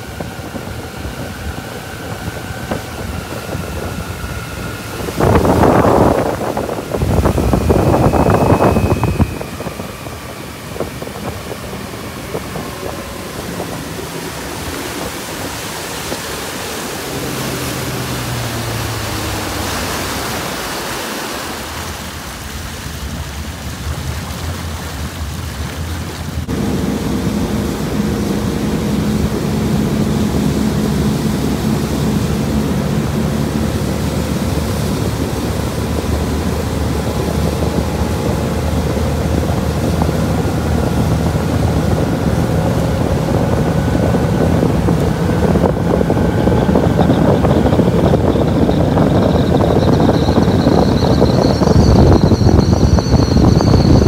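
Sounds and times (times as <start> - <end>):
boat engine hum: 0.0 - 54.0
water rushing along boat hull: 0.0 - 54.0
wind on microphone: 0.0 - 54.0.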